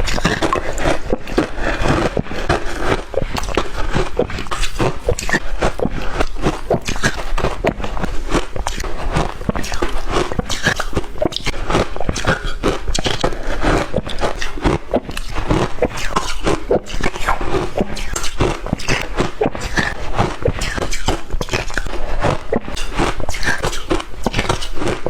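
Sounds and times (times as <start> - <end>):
shaved ice being chewed: 0.0 - 25.0.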